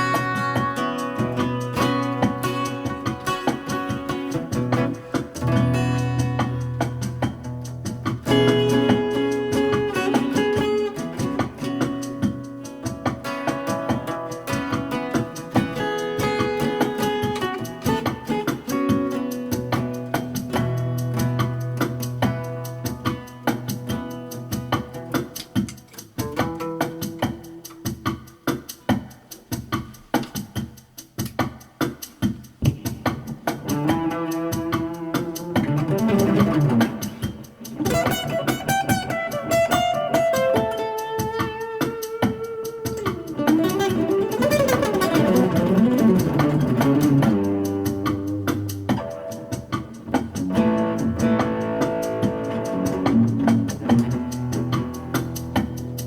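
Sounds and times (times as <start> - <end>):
guitar music with steady beat: 0.0 - 56.0.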